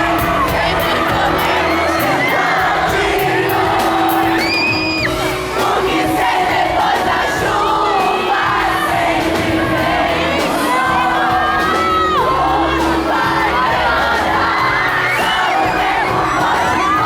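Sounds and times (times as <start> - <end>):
crowd singing and screaming: 0.0 - 17.0
live band music: 0.0 - 17.0.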